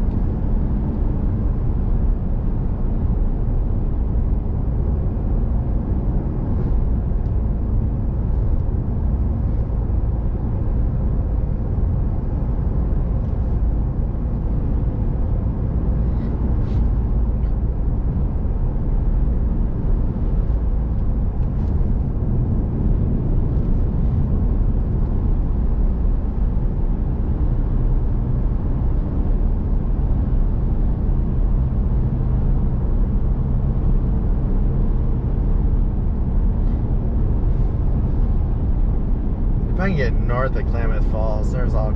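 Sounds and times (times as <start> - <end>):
car road and engine noise: 0.0 - 41.9.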